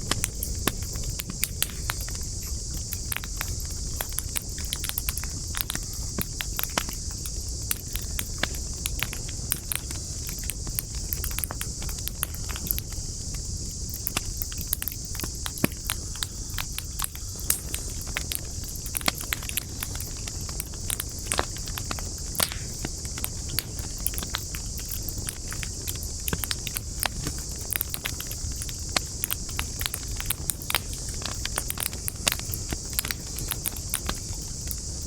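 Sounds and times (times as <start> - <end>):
wood campfire crackling: 0.0 - 35.0.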